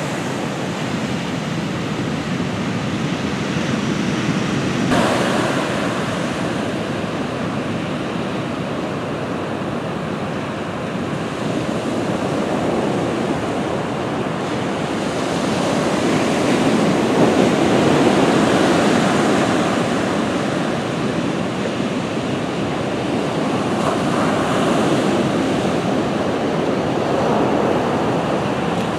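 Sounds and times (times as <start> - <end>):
surf breaking on beach: 0.0 - 28.9
wind buffeting microphone: 0.0 - 28.9.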